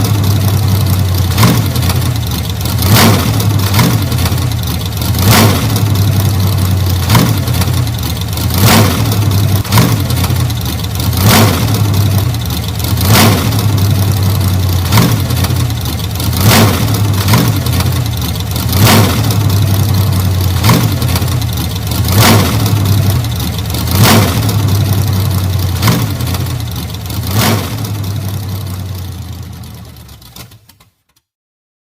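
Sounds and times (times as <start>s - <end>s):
car engine running: 0.0s - 30.8s.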